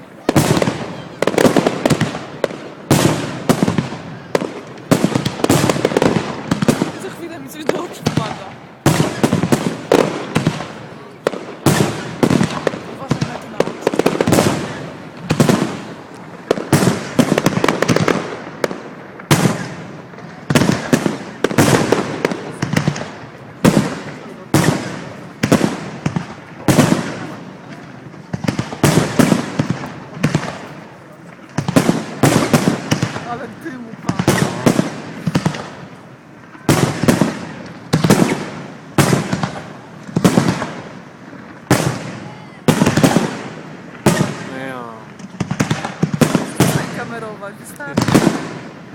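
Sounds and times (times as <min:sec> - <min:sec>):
firework crackles: 0:00.0 - 0:48.9.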